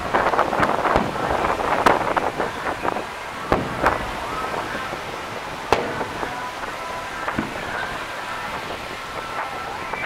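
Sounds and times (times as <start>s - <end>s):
firework bangs: 0.0s - 10.0s
steady background hiss: 0.0s - 10.0s.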